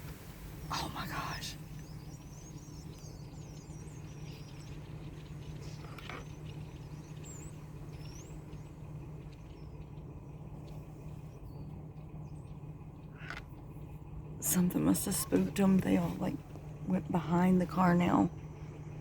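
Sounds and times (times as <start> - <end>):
flock of birds chirping: 0.0 - 19.0
steady low hum: 0.0 - 19.0.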